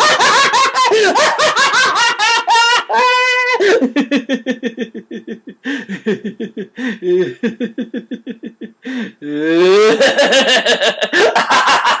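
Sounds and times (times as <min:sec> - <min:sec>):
man laughing in staccato bursts: 0:00.0 - 0:09.0, 0:09.7 - 0:12.0.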